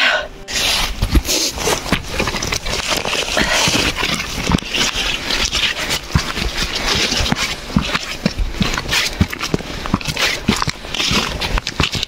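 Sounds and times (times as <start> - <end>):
footsteps on a trail: 0.4 - 12.0
rain shell and backpack rustling: 0.4 - 12.0.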